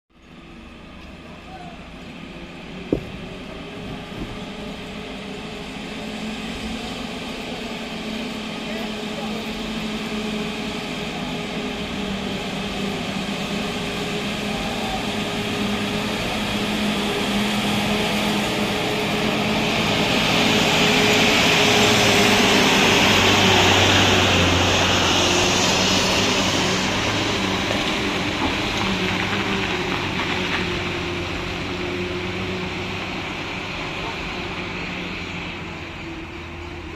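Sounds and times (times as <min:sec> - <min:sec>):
tyre and road noise: 0:00.2 - 0:36.9.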